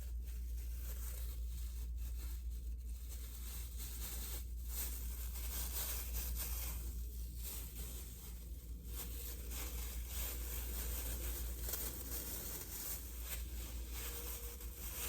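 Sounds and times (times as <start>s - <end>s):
steady low hum: 0.0s - 15.0s
wrapping rustling and tearing: 0.0s - 15.0s.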